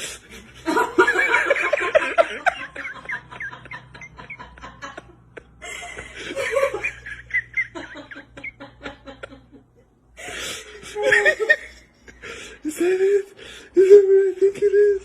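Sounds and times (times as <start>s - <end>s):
people laughing: 0.2s - 15.0s.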